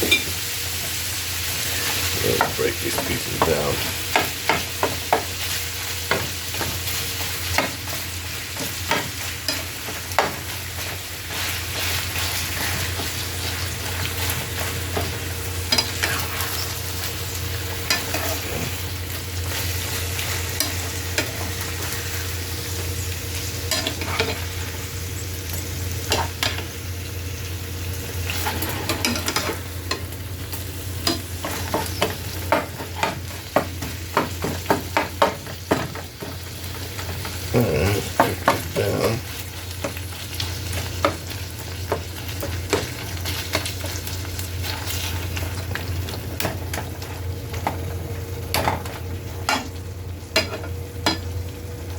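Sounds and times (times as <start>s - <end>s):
meat sizzling in a pan: 0.0s - 51.9s.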